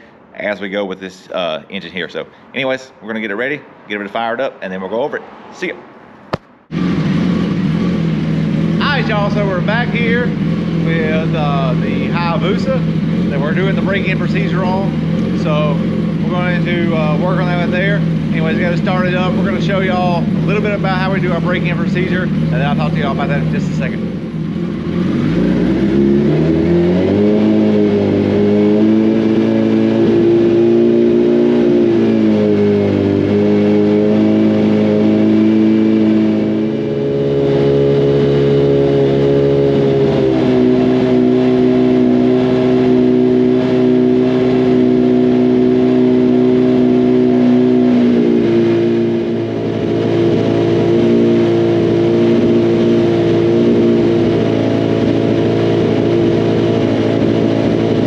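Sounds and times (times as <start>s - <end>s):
motorcycle engine revving: 5.6s - 58.0s.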